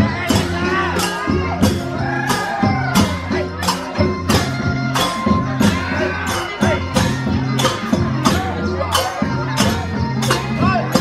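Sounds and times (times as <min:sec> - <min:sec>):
drum beat: 0:00.0 - 0:11.0
jangling cymbal percussion: 0:00.0 - 0:11.0.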